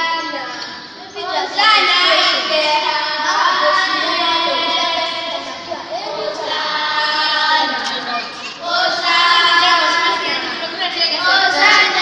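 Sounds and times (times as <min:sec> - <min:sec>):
children singing in chorus: 0:00.0 - 0:12.0.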